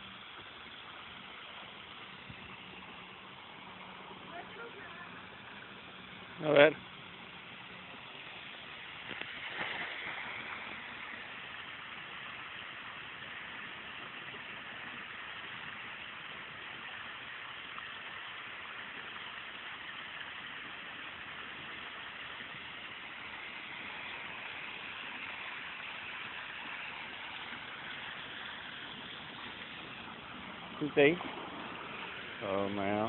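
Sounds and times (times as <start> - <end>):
pool water splashing: 0.0 - 33.0.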